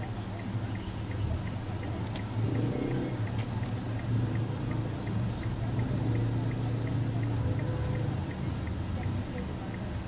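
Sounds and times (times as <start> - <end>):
car engine and road hum: 0.0 - 10.0
faint regular ticking: 0.0 - 10.0.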